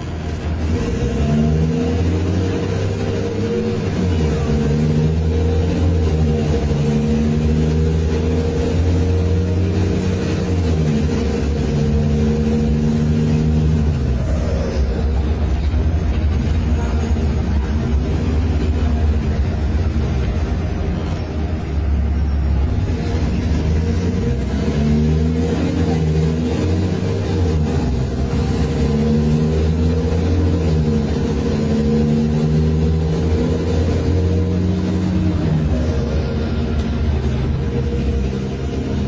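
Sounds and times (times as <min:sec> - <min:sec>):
diesel bus engine: 0:00.0 - 0:39.0.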